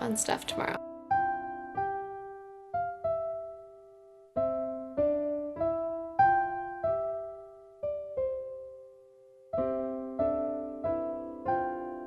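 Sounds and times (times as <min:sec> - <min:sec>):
slow electric piano melody: 0:00.8 - 0:12.0.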